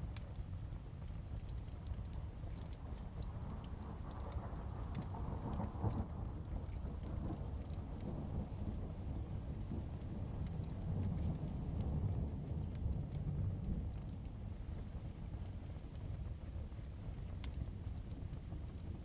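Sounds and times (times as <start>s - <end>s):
wood fire crackling: 0.0s - 19.0s
heavy rain: 2.5s - 19.0s
rolling rumble of thunder: 3.6s - 19.0s.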